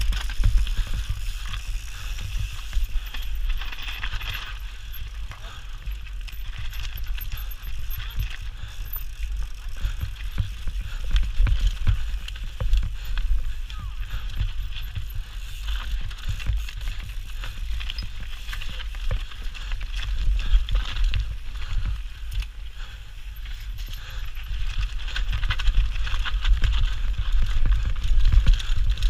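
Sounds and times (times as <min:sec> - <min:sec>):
bike clattering over stones: 0:00.0 - 0:29.0.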